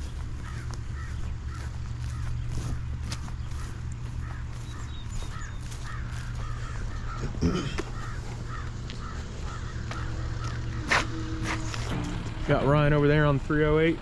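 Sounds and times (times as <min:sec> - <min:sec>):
crows cawing: 0:00.0 - 0:12.0
diesel engine idling: 0:00.0 - 0:14.0.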